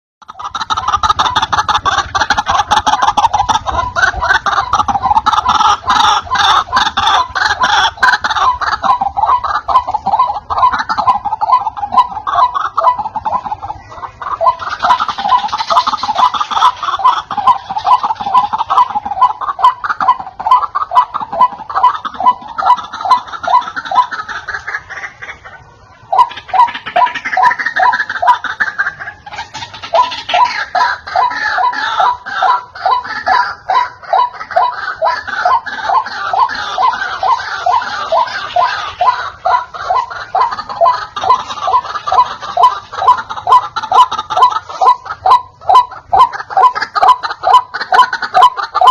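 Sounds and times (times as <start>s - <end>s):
waterhen calling harshly: 0.3s - 48.9s.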